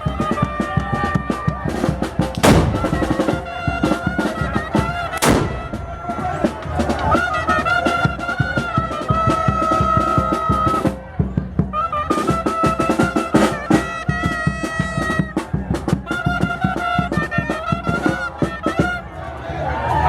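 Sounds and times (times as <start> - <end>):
steady drumbeat: 0.0 - 19.0
wind instrument melody: 0.0 - 19.2.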